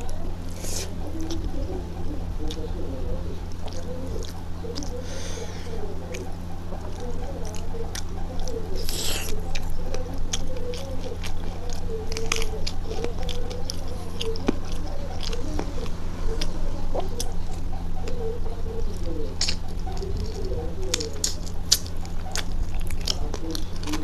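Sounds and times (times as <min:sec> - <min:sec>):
fingers squishing food: 0:00.0 - 0:24.0
wet chewing and mouth smacking: 0:00.0 - 0:24.0.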